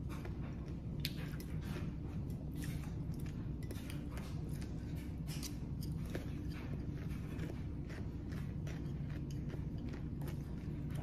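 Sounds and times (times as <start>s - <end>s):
low room hum: 0.0s - 11.0s
person chewing crunchy food: 0.0s - 11.0s.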